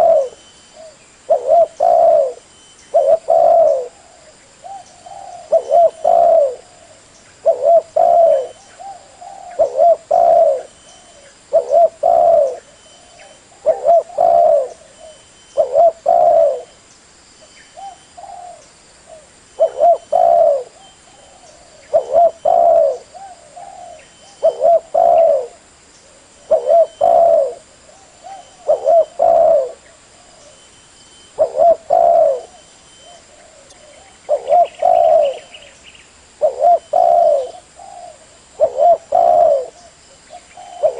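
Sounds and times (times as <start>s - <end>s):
dove cooing: 0.0s - 16.8s, 17.7s - 30.7s, 31.3s - 35.8s, 36.4s - 40.9s.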